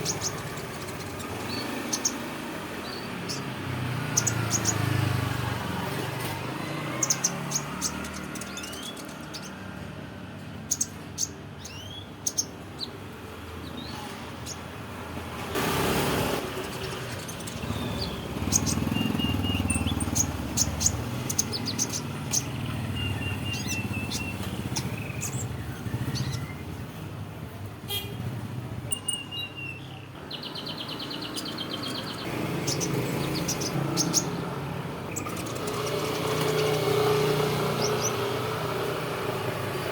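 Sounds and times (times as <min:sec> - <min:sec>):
canary chirping and trilling: 0:00.0 - 0:14.9, 0:15.6 - 0:26.9, 0:28.8 - 0:39.9.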